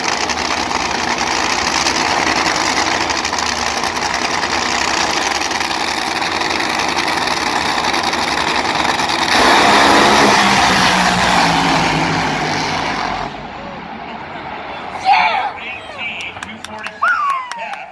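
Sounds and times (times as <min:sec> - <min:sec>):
drag racing engines roaring: 0:00.0 - 0:17.9.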